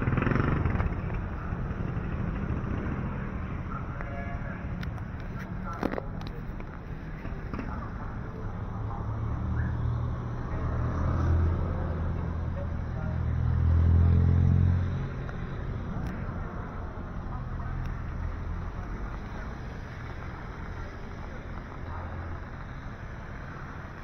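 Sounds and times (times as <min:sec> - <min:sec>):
vehicle engine hum passing: 0:00.0 - 0:24.0.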